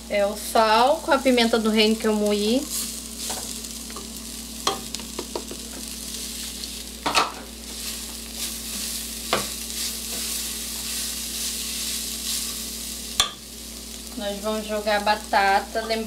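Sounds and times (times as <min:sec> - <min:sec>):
mince sizzling in a pan: 0:00.0 - 0:16.0.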